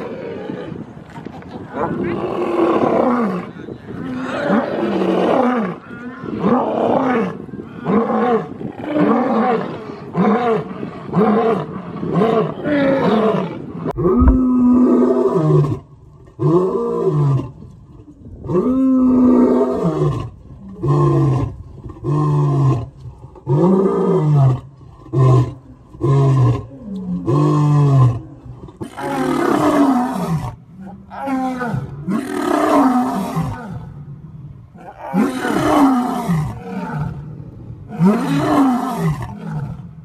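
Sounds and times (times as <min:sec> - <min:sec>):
lion roaring: 0:01.8 - 0:17.7, 0:18.4 - 0:40.0.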